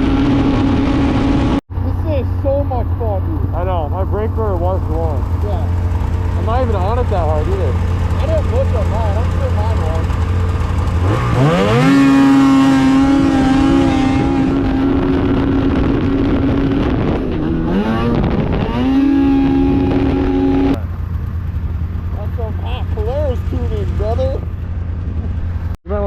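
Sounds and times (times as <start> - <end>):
snowmobile engine revving: 0.0 - 21.0, 22.1 - 24.4.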